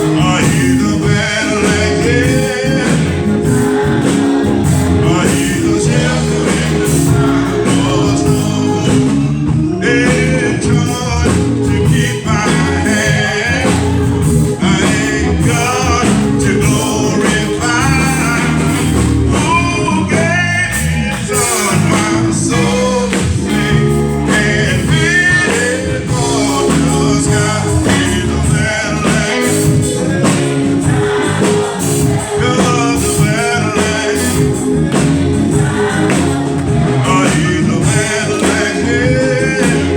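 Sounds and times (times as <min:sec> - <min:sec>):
gospel singers over a band: 0:00.0 - 0:39.9.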